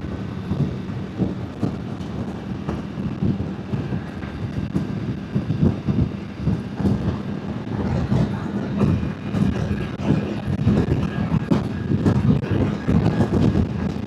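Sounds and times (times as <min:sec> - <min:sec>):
motorbike engine drone: 0:00.0 - 0:14.0
wind buffeting: 0:00.0 - 0:14.0.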